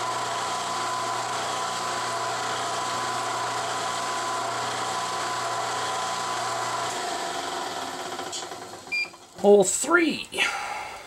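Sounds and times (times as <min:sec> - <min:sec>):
mill-drill motor humming and whining: 0:00.0 - 0:08.9.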